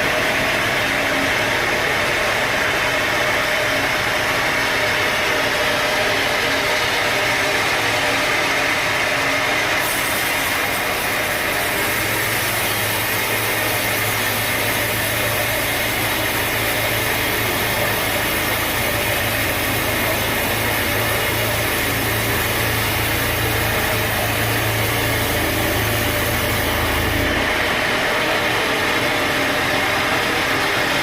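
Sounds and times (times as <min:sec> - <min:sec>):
sawmill machinery engine drone: 0:00.0 - 0:31.0.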